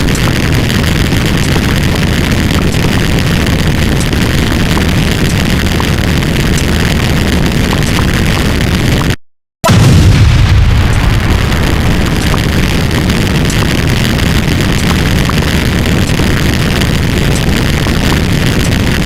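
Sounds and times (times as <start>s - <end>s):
loud steady rumbling: 0.0s - 19.0s.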